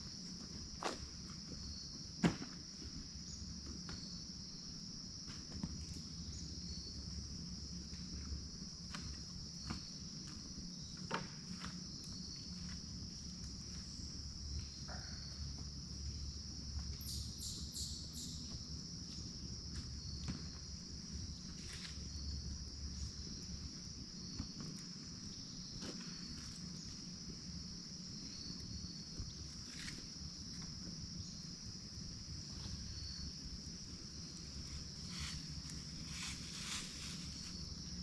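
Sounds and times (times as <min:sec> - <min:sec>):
insects chirping chorus: 0:00.0 - 0:38.0.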